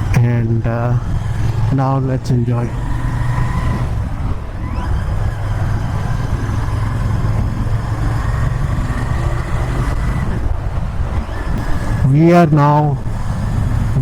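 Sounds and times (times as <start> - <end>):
motorcycle engine at highway speed: 0.0 - 14.0.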